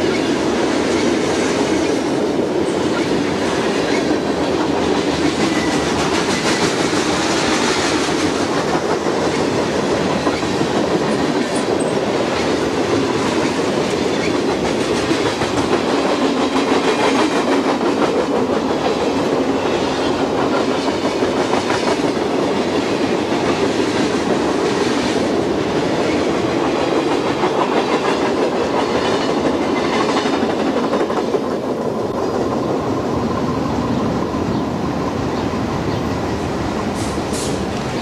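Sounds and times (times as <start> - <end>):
train wheels clacking on rails: 0.0 - 38.0.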